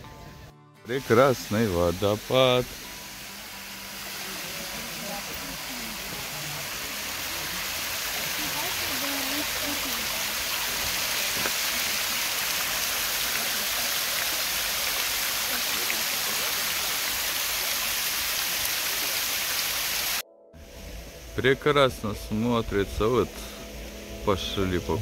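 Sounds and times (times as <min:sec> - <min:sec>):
waterfall hiss: 0:00.9 - 0:25.0.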